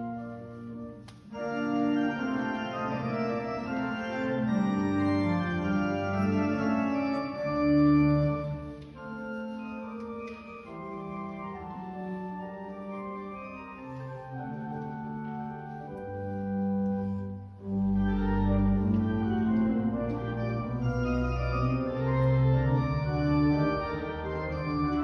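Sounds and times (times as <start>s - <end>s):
pipe organ playing chords: 0.0s - 25.0s.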